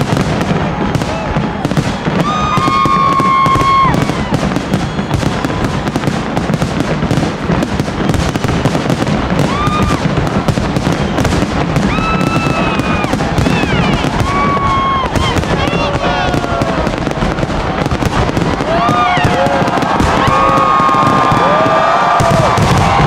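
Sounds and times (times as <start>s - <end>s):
fireworks crackling and banging: 0.0s - 23.0s
fireworks high whistles: 0.0s - 23.0s.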